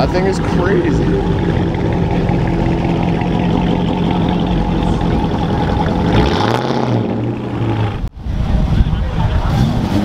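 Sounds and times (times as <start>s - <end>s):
car exhaust at low revs: 0.0s - 10.0s.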